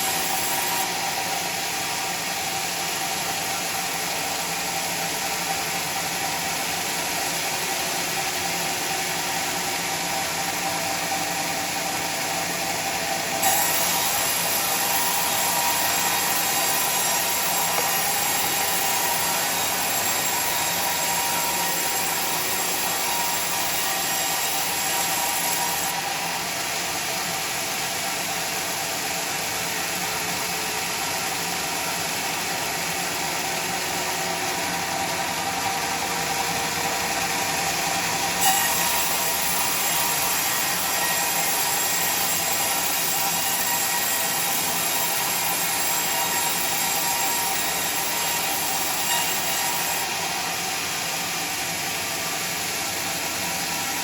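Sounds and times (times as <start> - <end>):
saw cutting wood: 0.0 - 3.2, 7.2 - 54.0
sawmill machinery running: 0.0 - 54.0.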